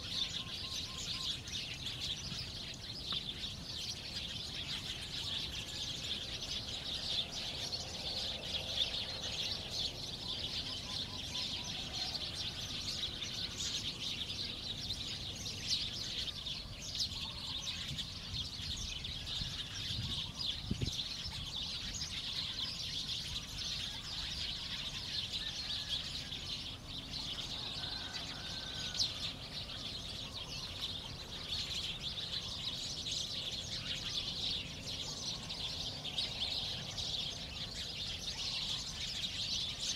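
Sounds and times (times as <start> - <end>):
chirping birds and insects: 0.0 - 39.9.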